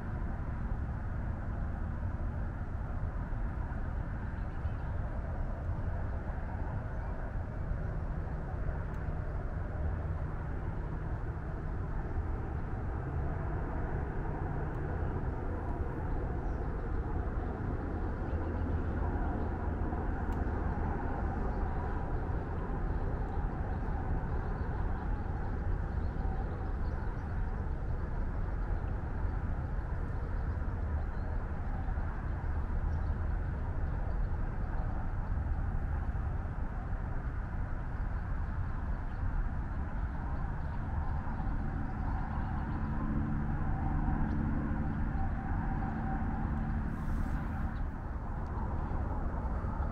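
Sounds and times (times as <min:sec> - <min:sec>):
highway traffic rumble: 0:00.0 - 0:49.9.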